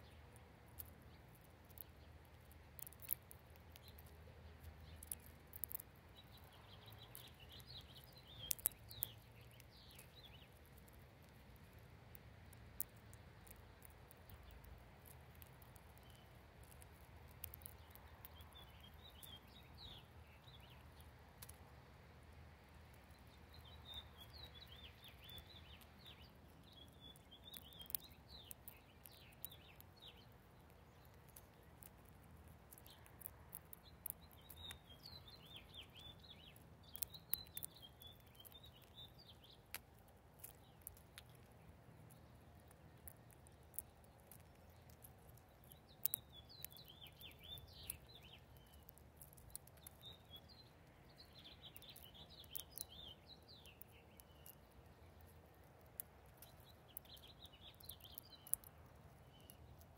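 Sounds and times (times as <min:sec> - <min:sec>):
sharp ticks and taps: 0:00.0 - 0:21.7, 0:22.9 - 0:59.9
small birds twittering: 0:00.0 - 0:59.9.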